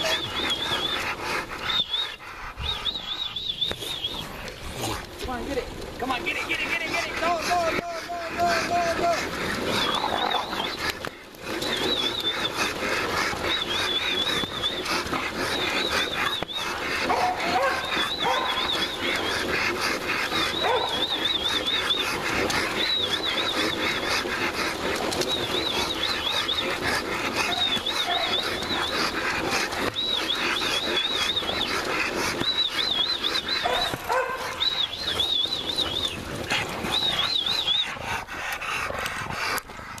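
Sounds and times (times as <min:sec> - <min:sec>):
dog panting: 0:00.0 - 0:40.0.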